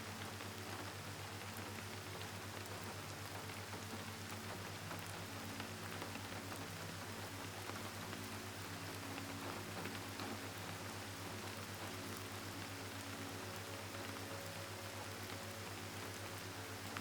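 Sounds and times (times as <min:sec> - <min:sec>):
gentle rain falling: 0:00.0 - 0:17.0.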